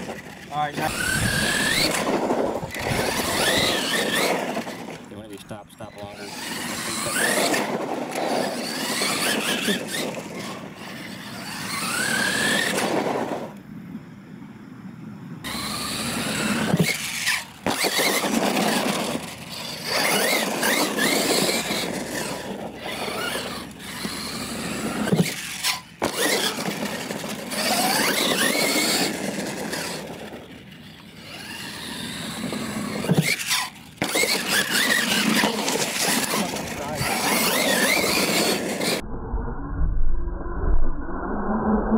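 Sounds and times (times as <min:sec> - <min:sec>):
electric motor whining: 0:00.0 - 0:13.6, 0:15.4 - 0:39.0
tyres scrabbling on loose dirt: 0:00.0 - 0:13.7, 0:15.4 - 0:39.0.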